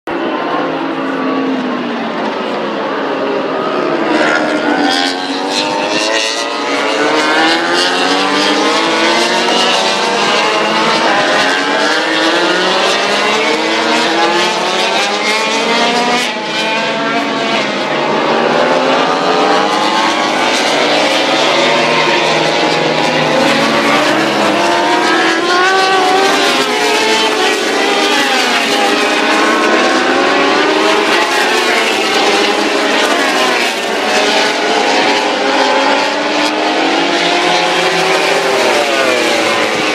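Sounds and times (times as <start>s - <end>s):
racing motorcycles accelerating: 0.4s - 39.9s.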